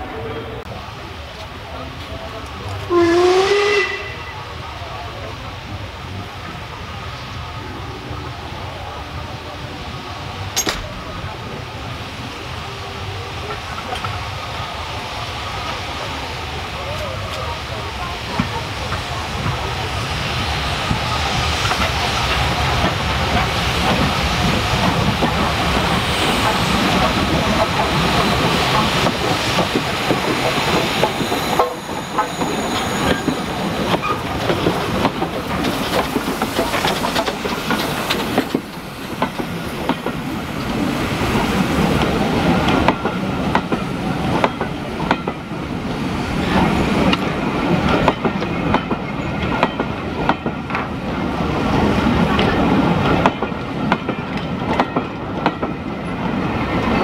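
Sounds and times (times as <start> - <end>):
steam locomotive passing: 0.0 - 57.0.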